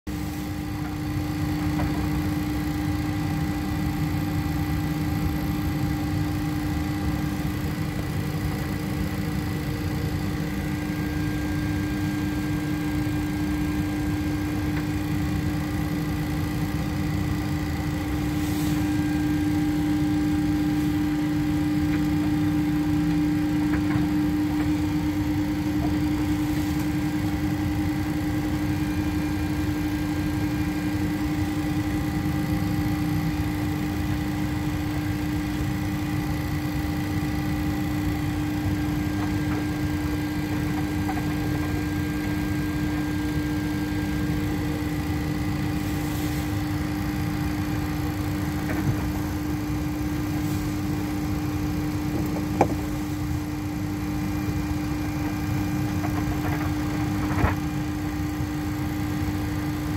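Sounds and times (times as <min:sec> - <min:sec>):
aircraft cockpit low rumble: 0:00.1 - 0:59.7
even hum: 0:00.1 - 0:59.9.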